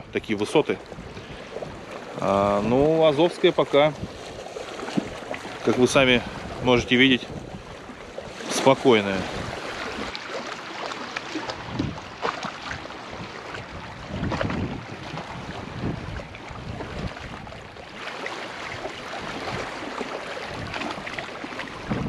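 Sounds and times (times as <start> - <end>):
wind on microphone: 0.0 - 10.2, 11.3 - 22.0
small waves washing on shore: 0.0 - 22.0.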